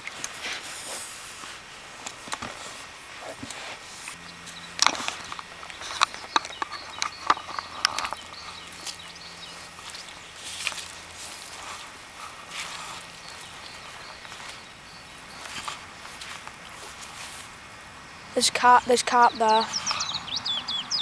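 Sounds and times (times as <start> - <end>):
footsteps in grass: 0.0 - 17.6.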